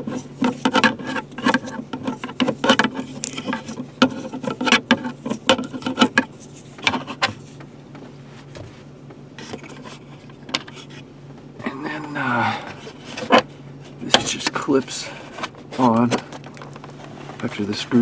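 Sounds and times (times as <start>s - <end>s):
plastic handling noise: 0.0s - 7.8s, 9.4s - 11.1s, 12.0s - 18.0s
faint steady hum: 0.0s - 18.0s.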